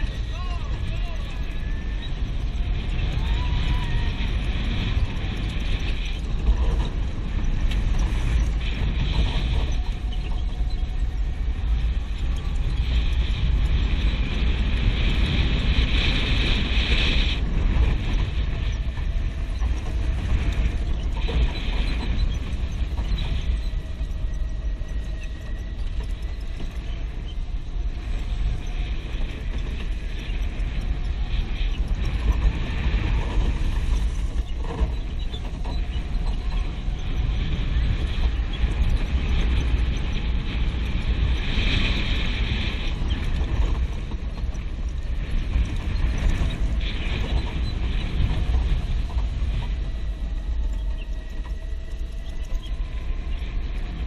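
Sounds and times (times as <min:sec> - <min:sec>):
go-kart engine running: 0:00.0 - 0:54.0
wind rumble on microphone: 0:00.0 - 0:54.0.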